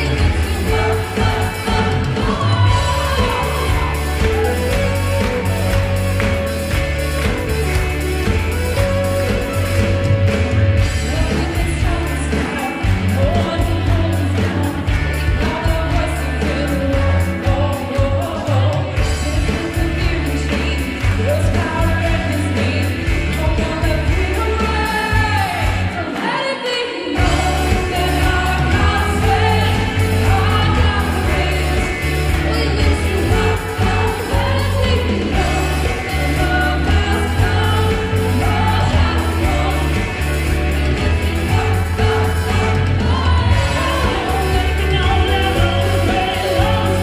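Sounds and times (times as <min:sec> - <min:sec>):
bass: 0:00.0 - 0:26.2, 0:27.1 - 0:47.0
drum kit: 0:00.0 - 0:26.4, 0:27.1 - 0:47.0
electric guitar: 0:00.0 - 0:47.0
keyboard: 0:00.0 - 0:47.0
woman singing lead: 0:00.0 - 0:47.0.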